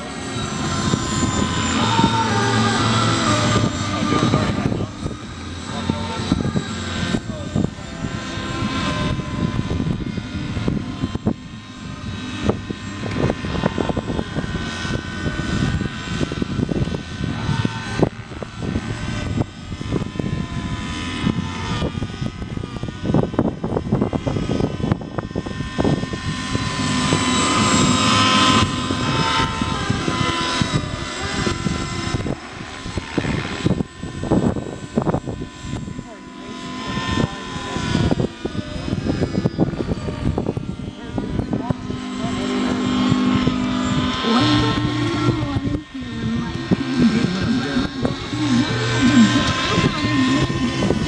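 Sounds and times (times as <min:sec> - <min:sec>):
model helicopter motor whine: 0:00.0 - 0:51.0.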